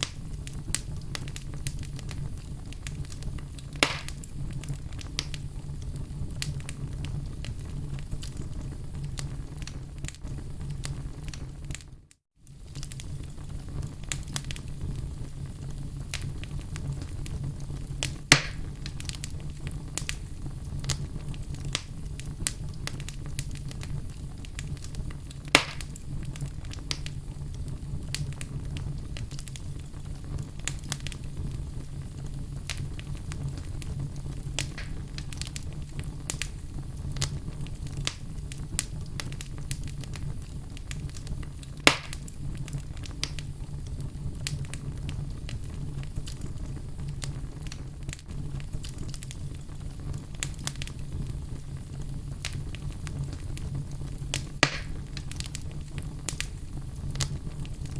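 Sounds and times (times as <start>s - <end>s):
fire low rumble: 0.0s - 57.9s
sharp fire pops: 0.0s - 57.9s
wood fire crackling: 0.0s - 57.9s.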